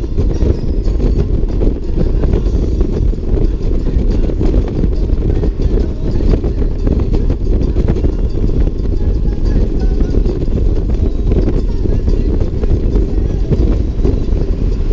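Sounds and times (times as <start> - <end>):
motorcycle engine rumble: 0.0 - 14.9
wind rush over microphone: 0.0 - 14.9.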